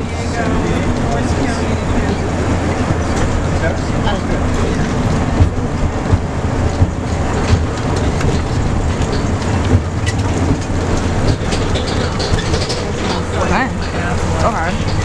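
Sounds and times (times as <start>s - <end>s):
bus body rattling: 0.0s - 15.0s
bus engine and road rumble: 0.0s - 15.0s.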